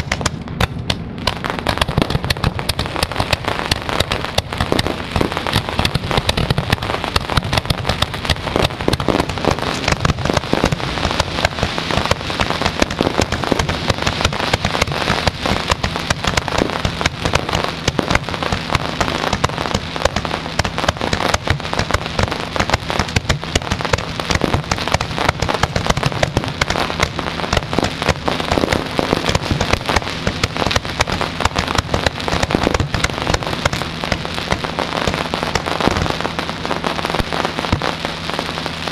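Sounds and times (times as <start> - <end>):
fireworks crackling and banging: 0.0 - 38.9
steady low hum: 0.0 - 38.9.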